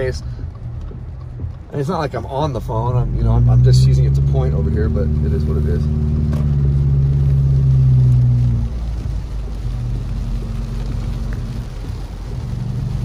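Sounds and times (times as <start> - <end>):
car engine drone: 0.0 - 13.0
rain: 0.0 - 13.0
wet tyres hissing: 0.0 - 13.0.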